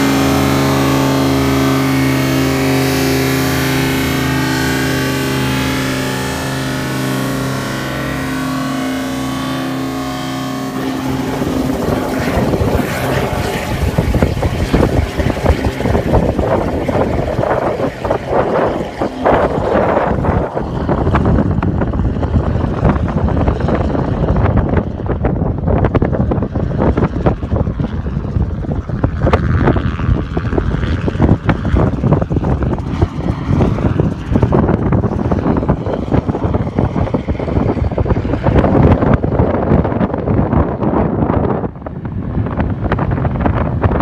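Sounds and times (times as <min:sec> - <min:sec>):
helicopter rotor and engine: 0:00.0 - 0:44.0
wind buffeting microphone: 0:00.0 - 0:44.0.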